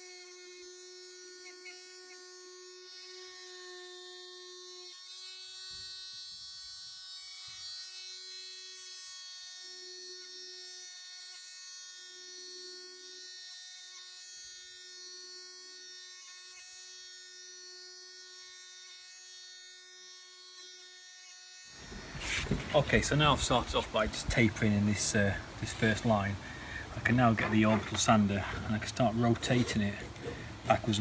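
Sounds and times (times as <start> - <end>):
electric sander on wood: 0.0 - 31.0.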